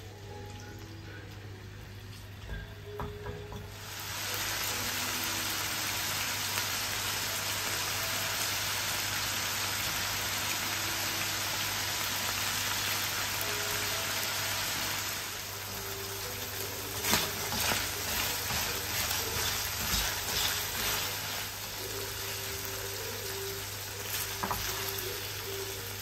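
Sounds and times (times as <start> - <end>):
chicken sizzling in frying pan: 3.7 - 26.0.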